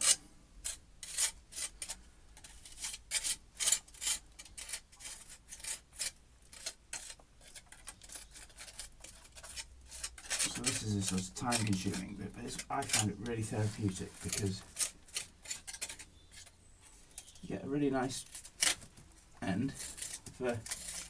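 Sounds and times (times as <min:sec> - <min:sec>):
hand tool scraping mortar: 0:00.0 - 0:21.0.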